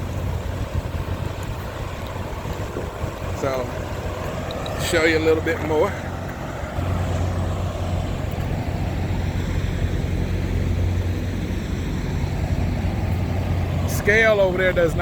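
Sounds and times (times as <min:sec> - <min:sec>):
truck diesel engine drone: 0:00.0 - 0:15.0.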